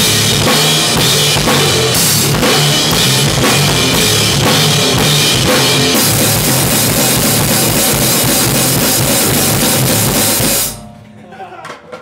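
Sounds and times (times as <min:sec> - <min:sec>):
cymbals washing: 0:00.0 - 0:10.8
drum kit beat: 0:00.0 - 0:10.8
rock band playing: 0:00.0 - 0:10.9.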